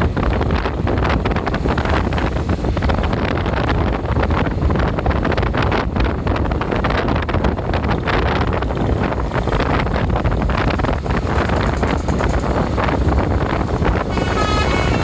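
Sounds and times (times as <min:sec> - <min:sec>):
road and engine noise: 0:00.0 - 0:15.0
wind buffeting microphone: 0:00.0 - 0:15.0.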